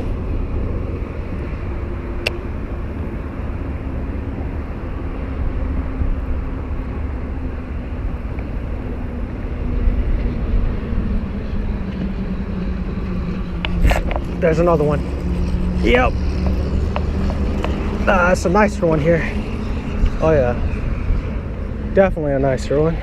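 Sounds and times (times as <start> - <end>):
distant engine drone: 0.0 - 23.0.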